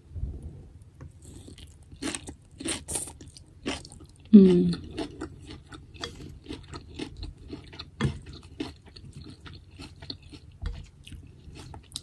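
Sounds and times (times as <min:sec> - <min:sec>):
person chewing food: 0:01.0 - 0:12.0.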